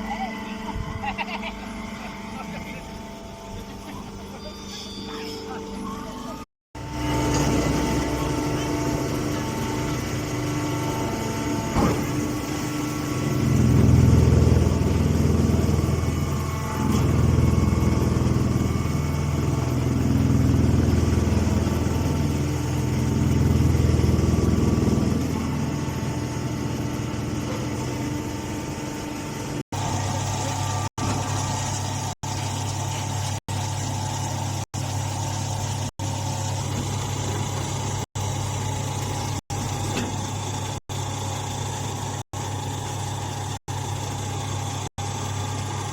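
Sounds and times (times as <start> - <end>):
hay baler mechanical hum: 0.0 - 45.9.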